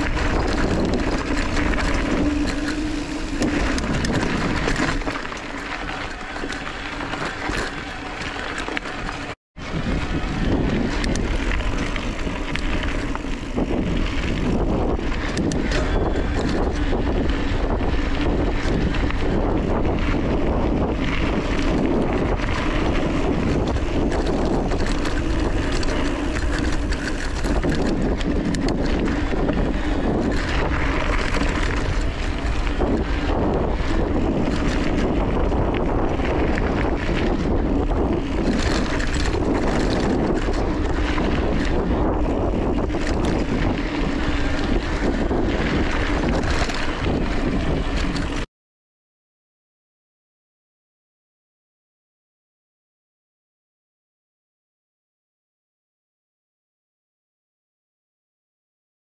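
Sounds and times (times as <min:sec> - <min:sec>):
bike clicks and rattles: 0:00.0 - 0:48.5
bike tyres crunching on gravel: 0:00.0 - 0:48.5
wind noise on microphone: 0:00.0 - 0:48.5.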